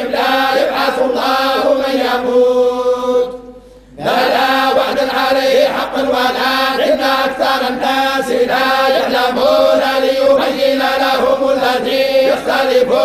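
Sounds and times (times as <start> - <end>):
men chanting in unison: 0.0 - 3.4, 4.0 - 13.0.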